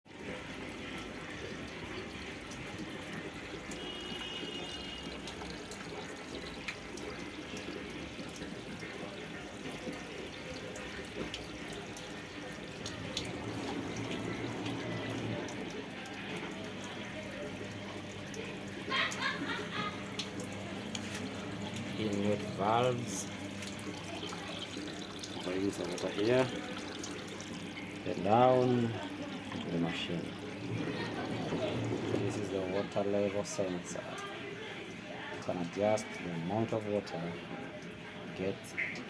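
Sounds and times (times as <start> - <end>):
water filling washing machine: 0.1 - 39.0.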